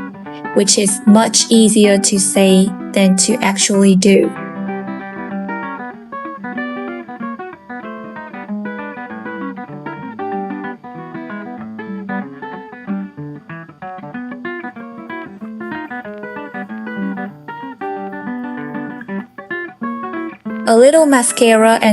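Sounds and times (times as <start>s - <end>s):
plucked guitar playing: 0.0s - 21.9s.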